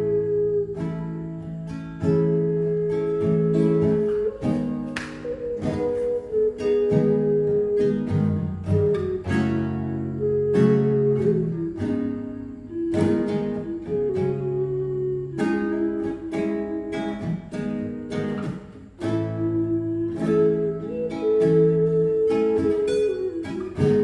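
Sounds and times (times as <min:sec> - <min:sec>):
acoustic guitar chords: 0:00.0 - 0:24.0
ocarina melody: 0:00.0 - 0:24.0.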